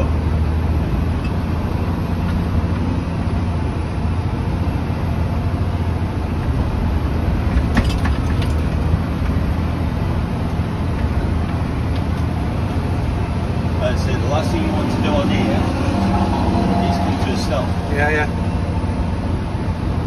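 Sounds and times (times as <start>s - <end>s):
truck diesel engine pulling: 0.0s - 20.0s.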